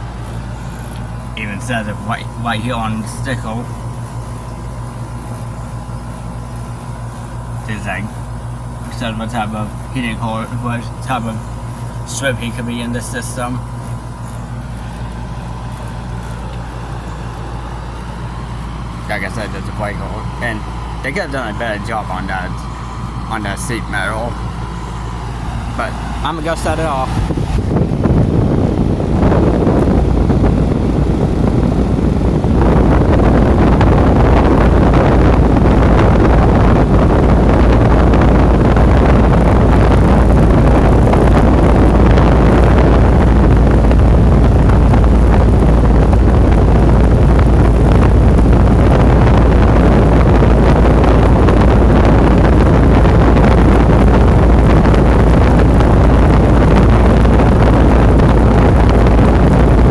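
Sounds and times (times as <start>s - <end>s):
fan airflow buffeting microphone: 0.0s - 59.9s
heat pump machine rumble: 0.0s - 59.9s.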